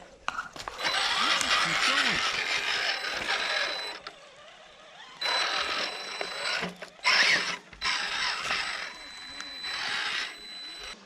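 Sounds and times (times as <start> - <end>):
rc truck motors whirring: 0.4 - 11.0
thin high motor whine: 0.7 - 11.0.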